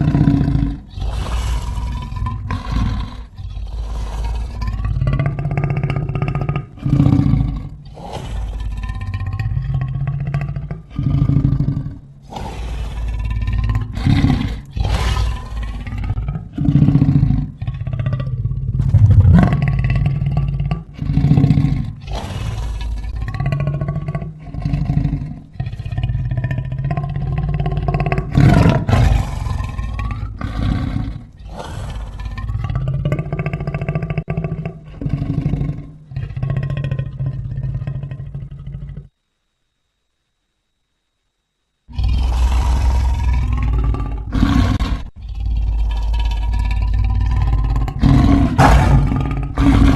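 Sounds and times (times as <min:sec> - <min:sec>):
big cat growling and roaring: 0:00.0 - 0:39.1, 0:41.9 - 0:49.9.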